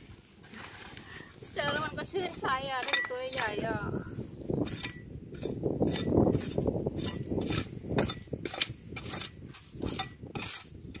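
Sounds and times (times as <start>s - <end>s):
stones grinding: 0.5s - 3.9s, 4.6s - 11.0s
metal rake scraping on rock: 0.7s - 3.9s, 4.6s - 11.0s.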